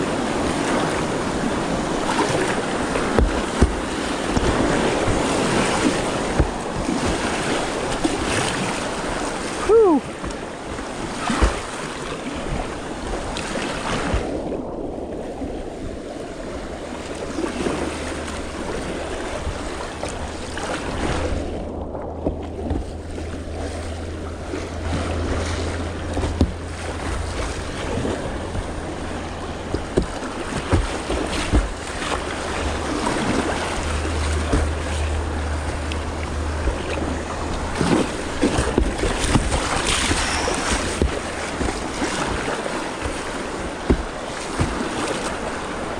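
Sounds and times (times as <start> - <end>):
river water rushing: 0.0 - 14.5, 15.2 - 45.9
paddle splashes and knocks: 0.0 - 45.9
wind rumble on microphone: 0.0 - 45.9.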